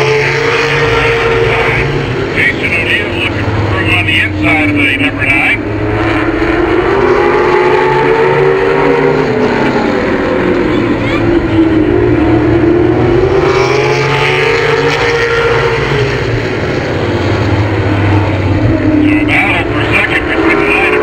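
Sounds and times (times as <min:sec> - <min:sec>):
stock car engines racing: 0:00.0 - 0:21.0.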